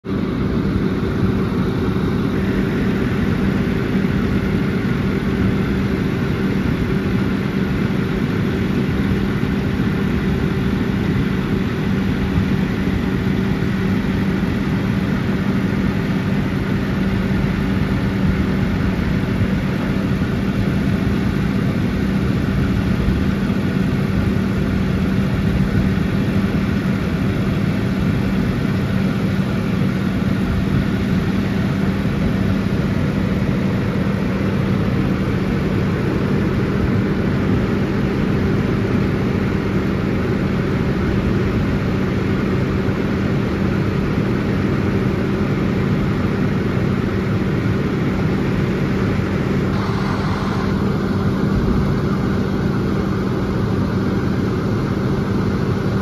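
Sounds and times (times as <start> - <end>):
tractor diesel engine droning: 0.0 - 56.0.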